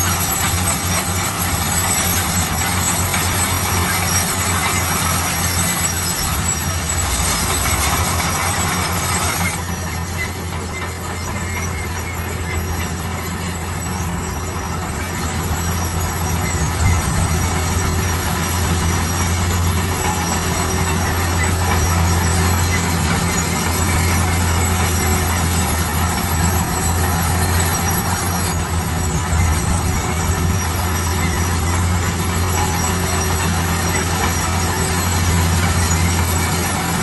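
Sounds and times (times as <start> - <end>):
high-pitched machine grinding: 0.0 - 37.0
low engine drone: 0.0 - 37.0.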